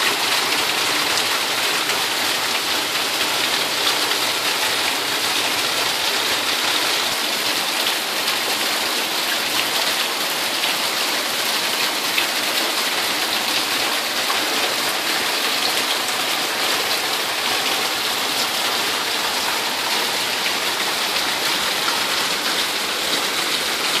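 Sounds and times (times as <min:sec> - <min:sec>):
heavy rain on leaves and concrete: 0:00.0 - 0:24.0.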